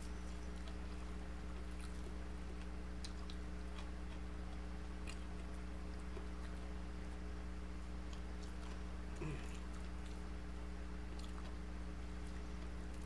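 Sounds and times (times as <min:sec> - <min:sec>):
low electrical hum: 0:00.0 - 0:13.0
person chewing fried fish: 0:00.0 - 0:13.0.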